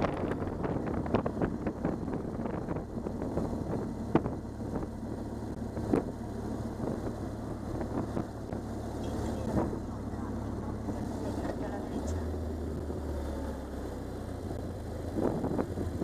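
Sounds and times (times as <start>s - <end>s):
motorcycle engine running: 0.0s - 16.0s
wind buffeting knocks: 0.0s - 16.0s
wind rushing over microphone: 0.0s - 16.0s.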